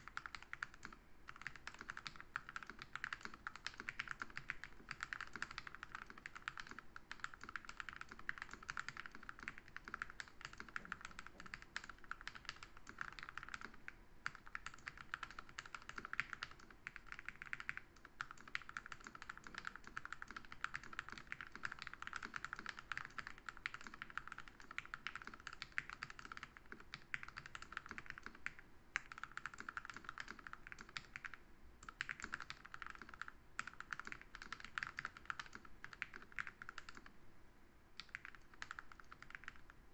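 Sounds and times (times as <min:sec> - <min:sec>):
mechanical keyboard typing: 0:00.0 - 0:37.1, 0:38.0 - 0:39.7.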